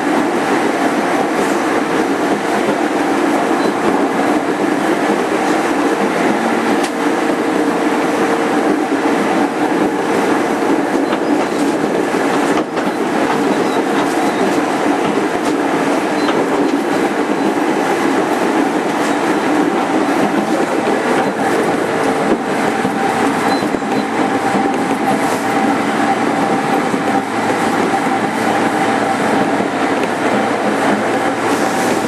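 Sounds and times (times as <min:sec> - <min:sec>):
train motor hum: 0:00.0 - 0:32.0
train wheels on rails: 0:00.0 - 0:32.0
rail-joint clicks: 0:00.9 - 0:32.0.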